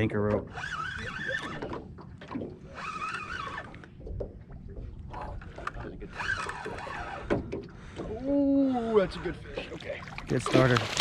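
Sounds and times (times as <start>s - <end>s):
wind and water rumble: 0.0s - 11.0s.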